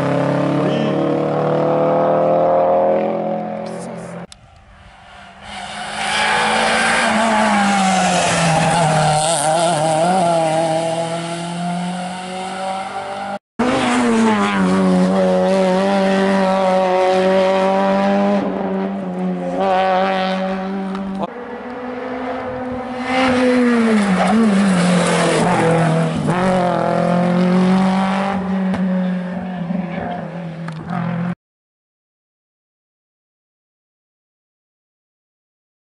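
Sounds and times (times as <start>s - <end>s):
rally car engines revving: 0.0s - 4.3s, 5.4s - 31.4s.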